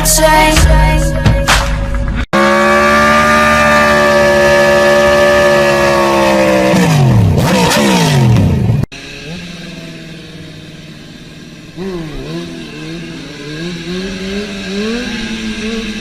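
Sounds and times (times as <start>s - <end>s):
motorcycle engine revving: 2.1s - 16.0s.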